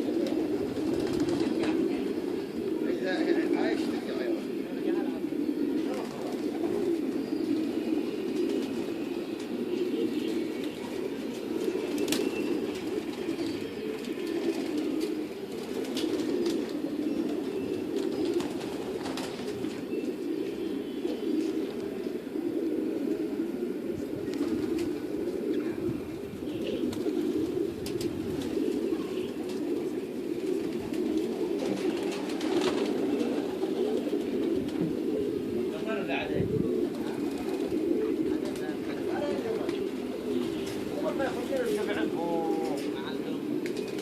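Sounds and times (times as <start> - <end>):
pigeons cooing: 0.0 - 44.0.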